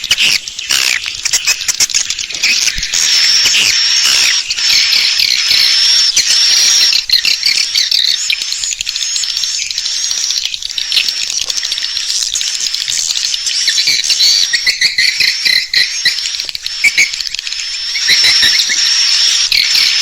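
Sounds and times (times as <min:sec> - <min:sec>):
dense chatter of calls and clicks: 0:00.0 - 0:20.0
high twittering bird chirps: 0:00.0 - 0:20.0.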